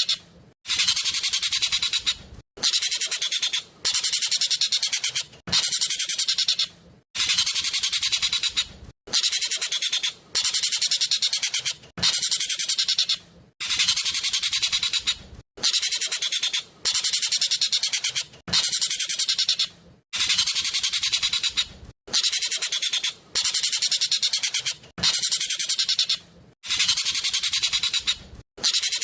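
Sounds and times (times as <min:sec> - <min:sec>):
starling singing shrill chatter: 0:00.0 - 0:29.0.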